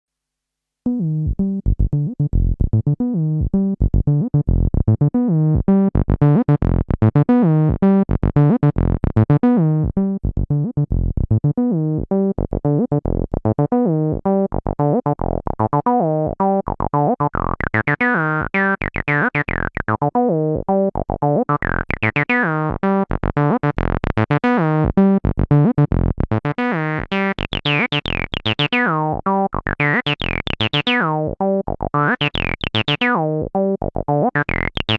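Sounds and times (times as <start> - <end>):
squelchy synth bassline: 0.9 - 34.9.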